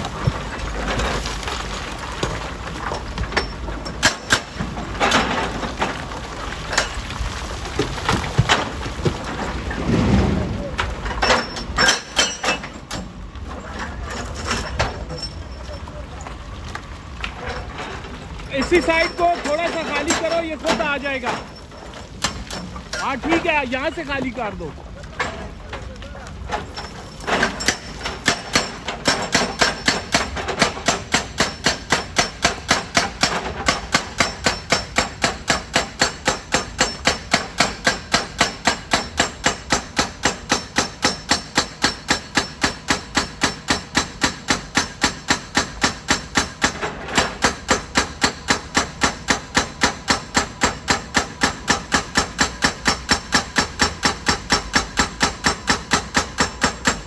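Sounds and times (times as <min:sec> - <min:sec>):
hydraulic rock breaker hammering stone: 0:00.0 - 0:09.9, 0:10.7 - 0:15.3, 0:17.8 - 0:24.5, 0:26.4 - 0:57.0.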